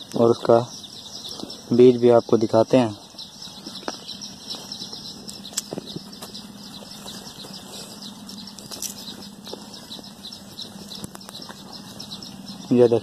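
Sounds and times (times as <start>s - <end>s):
high-pitched chirping: 0.0s - 13.0s.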